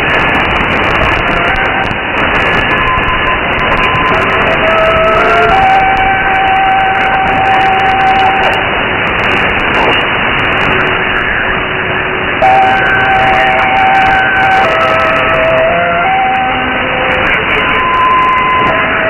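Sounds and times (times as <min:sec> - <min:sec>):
radio static and hiss: 0:00.0 - 0:19.0
slow melody on radio: 0:00.0 - 0:19.0.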